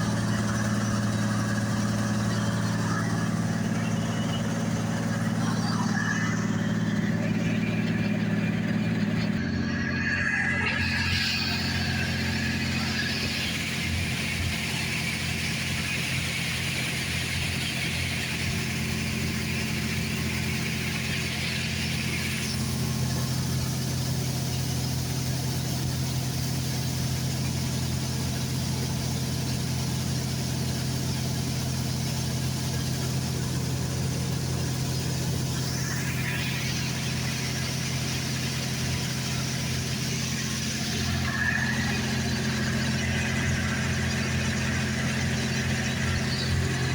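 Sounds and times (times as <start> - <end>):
combine diesel engine humming: 0.0 - 46.9.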